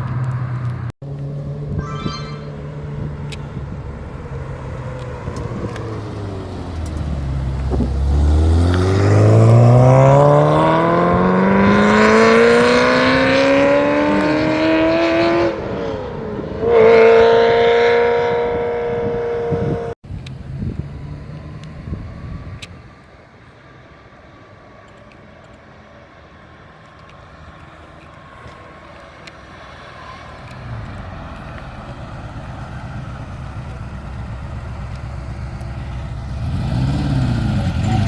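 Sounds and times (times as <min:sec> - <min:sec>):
car engine accelerating: 0:00.0 - 0:22.6, 0:26.9 - 0:38.0.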